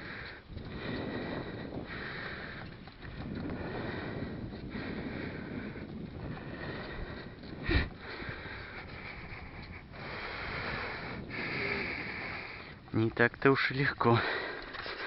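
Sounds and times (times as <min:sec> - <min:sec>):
mountain bike rolling rumble: 0:00.0 - 0:15.0
wind buffeting microphone: 0:00.0 - 0:15.0.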